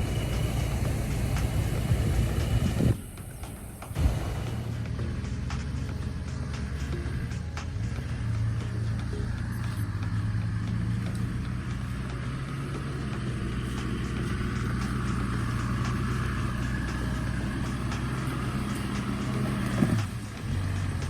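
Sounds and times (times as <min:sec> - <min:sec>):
vehicle engine running at low revs: 0:00.0 - 0:21.0.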